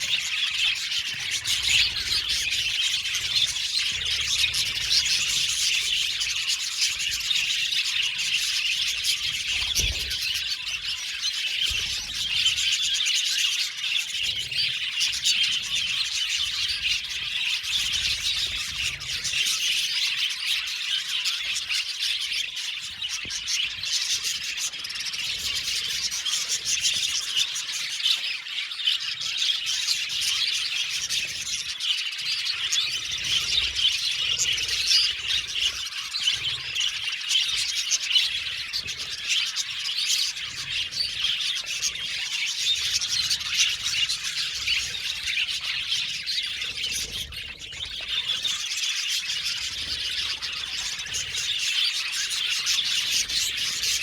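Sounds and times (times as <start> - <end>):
budgies chirping and chattering: 0.0 - 54.0.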